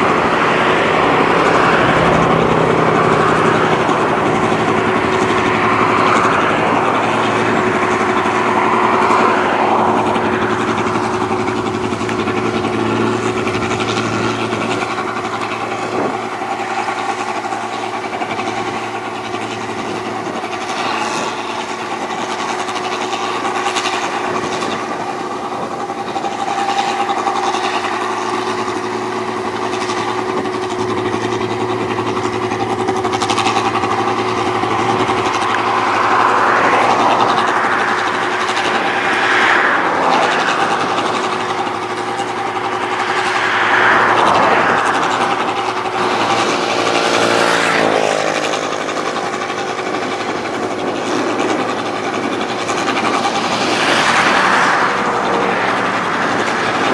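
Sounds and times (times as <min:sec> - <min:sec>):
combine harvester engine hum: 0:00.0 - 0:56.9.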